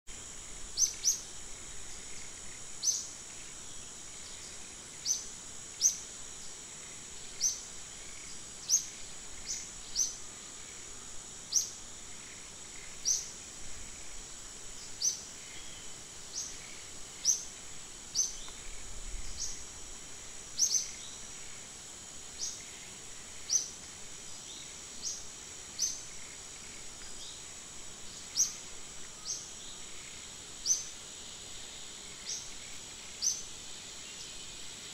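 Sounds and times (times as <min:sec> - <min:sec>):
insect drone: 0:00.1 - 0:34.9.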